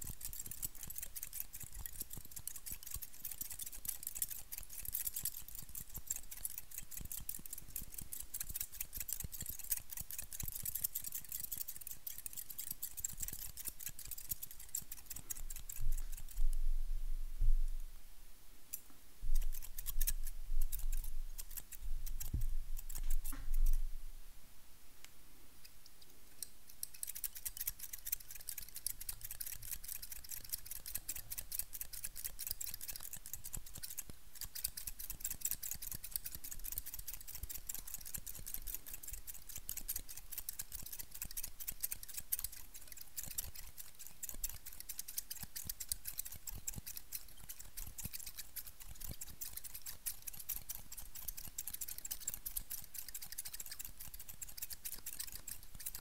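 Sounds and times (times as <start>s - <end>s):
scissors snipping: 0.0s - 16.6s, 18.7s - 23.8s, 25.9s - 56.0s.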